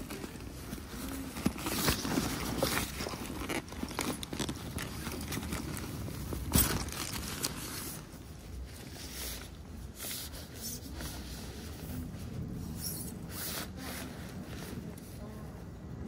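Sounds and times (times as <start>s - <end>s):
fabric bag rustling and scraping: 0.0s - 15.6s.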